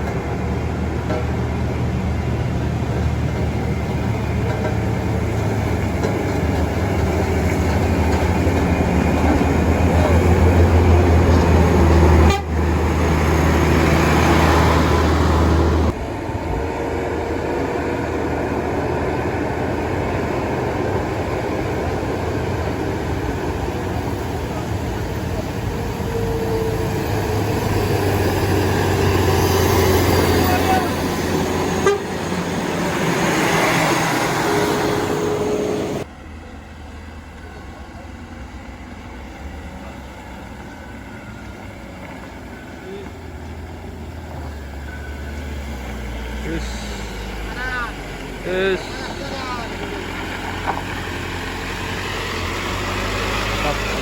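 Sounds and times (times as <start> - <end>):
diesel truck engine labouring: 0.0 - 54.0.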